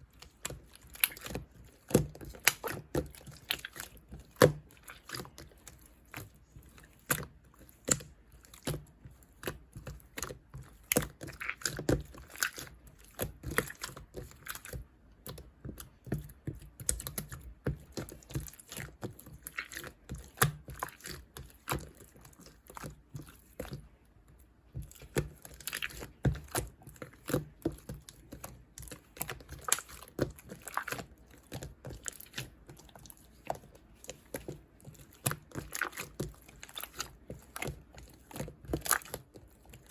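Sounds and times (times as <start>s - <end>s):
slime squelching and popping: 0.0s - 39.9s.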